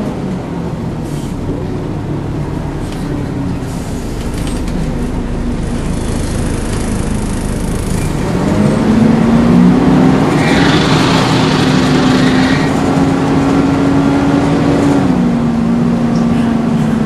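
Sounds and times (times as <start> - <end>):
bus engine with cooling fan drone: 0.0 - 17.0.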